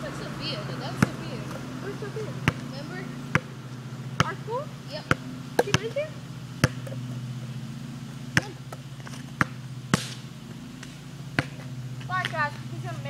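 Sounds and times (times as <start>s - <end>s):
steady low hum: 0.0s - 13.0s
basketball bouncing on asphalt: 0.7s - 13.0s.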